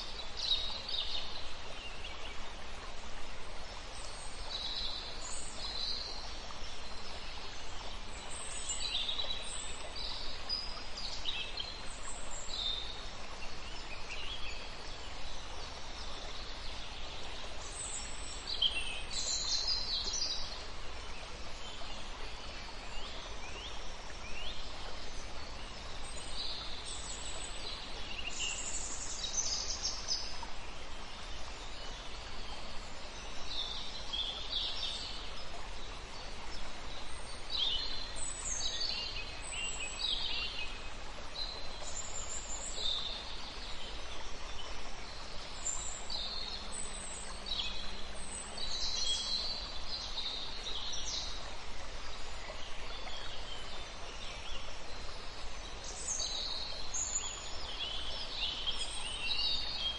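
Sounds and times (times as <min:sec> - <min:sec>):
low outdoor background noise: 0:00.0 - 0:59.9.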